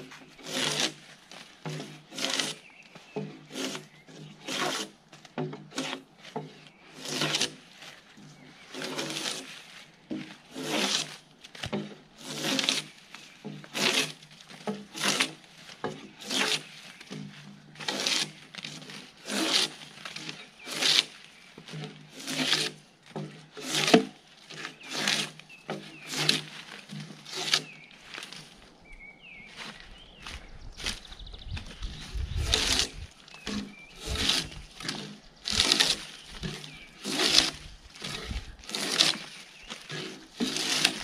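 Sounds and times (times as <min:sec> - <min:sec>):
drawknife scraping bark: 0:00.0 - 0:28.6, 0:31.6 - 0:41.0.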